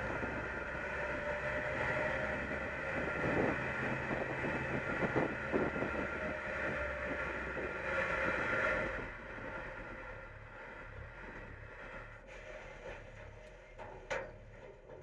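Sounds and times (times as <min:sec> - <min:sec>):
garbage truck engine and hydraulics: 0:00.0 - 0:15.0.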